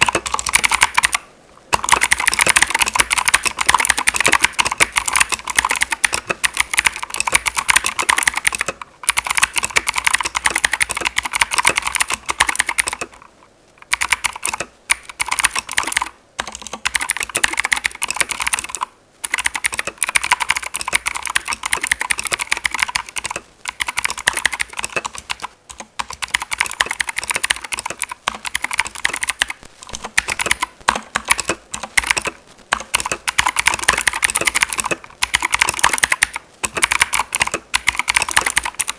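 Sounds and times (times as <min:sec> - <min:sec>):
clicky mechanical keyboard typing: 0:00.0 - 0:38.9.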